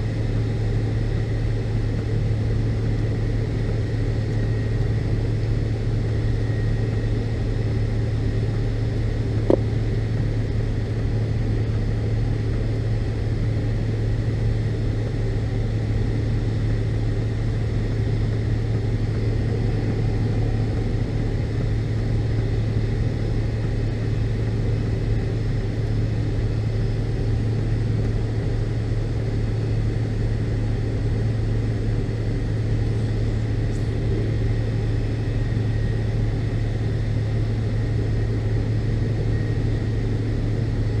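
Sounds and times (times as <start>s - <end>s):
airliner cabin drone: 0.0s - 41.0s
faint steady whine: 0.0s - 41.0s.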